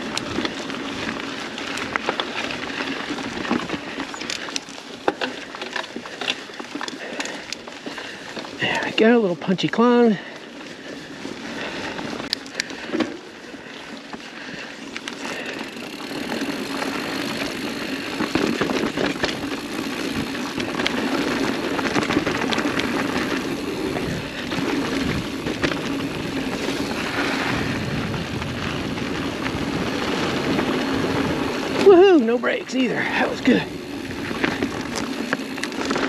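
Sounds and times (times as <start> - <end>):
bike clicks and rattles: 0.0 - 36.0
knobby tyres on dirt: 0.0 - 36.0.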